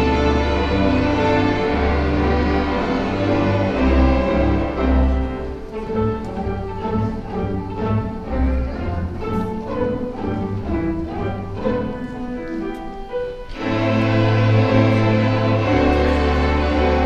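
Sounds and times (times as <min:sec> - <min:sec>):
school orchestra playing: 0:00.0 - 0:17.0.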